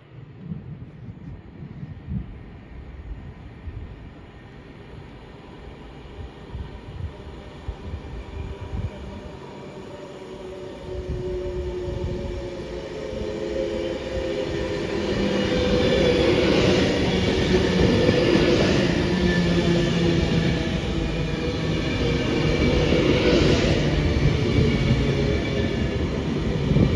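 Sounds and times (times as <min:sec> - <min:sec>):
train hum of steady tones: 0:00.0 - 0:26.9
train approaching: 0:02.6 - 0:26.9.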